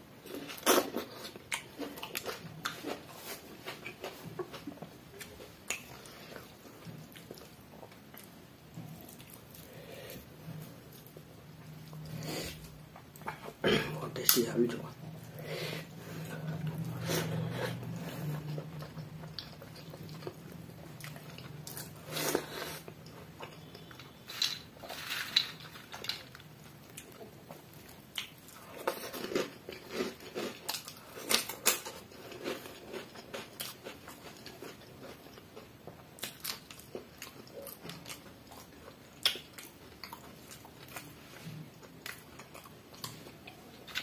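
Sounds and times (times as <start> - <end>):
person chewing crunchy food: 0.2 - 13.6, 15.0 - 44.0.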